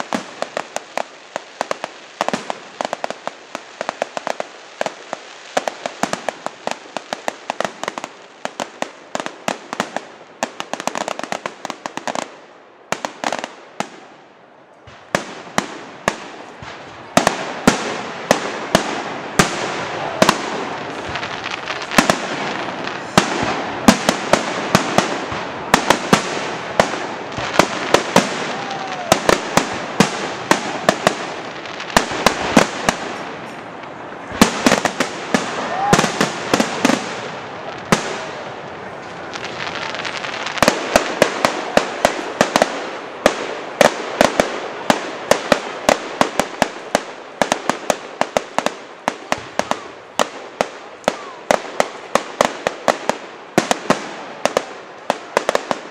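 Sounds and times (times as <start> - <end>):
fireworks bangs and crackle: 0.0 - 55.9.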